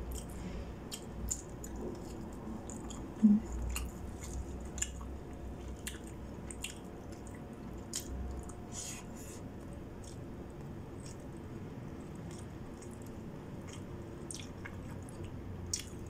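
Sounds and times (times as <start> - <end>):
chewing and wet mouth sounds: 0.0 - 16.0.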